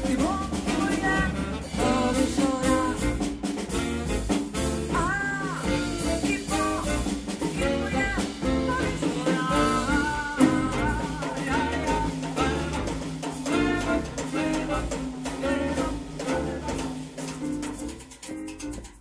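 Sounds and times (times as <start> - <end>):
jazz combo playing samba: 0.0 - 19.0.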